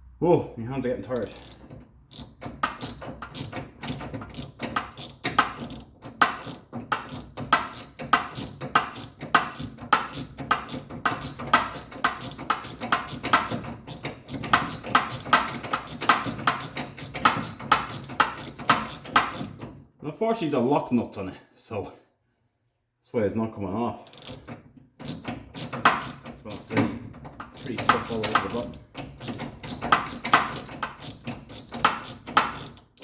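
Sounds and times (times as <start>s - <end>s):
socket ratchet clicking: 1.2s - 19.6s, 24.1s - 26.8s, 27.4s - 33.0s.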